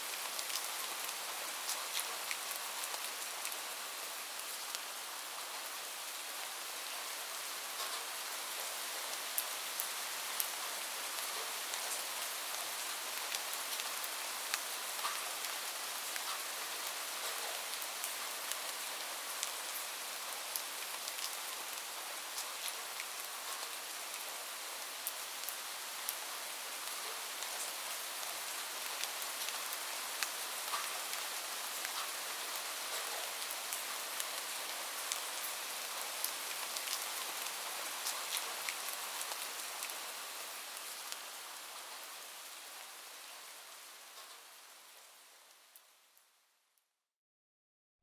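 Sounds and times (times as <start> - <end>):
light rain falling: 0.0 - 46.7.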